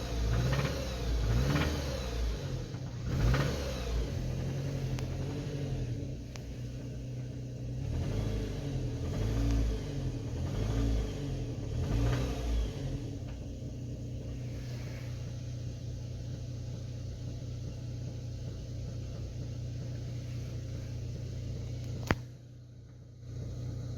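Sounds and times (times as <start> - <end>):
car engine revving and idling: 0.0 - 23.9.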